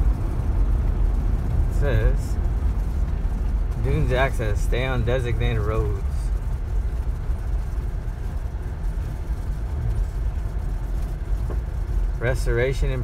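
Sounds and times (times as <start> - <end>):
tyres on gravel road: 0.0 - 13.0
vehicle engine rumble: 0.0 - 13.0.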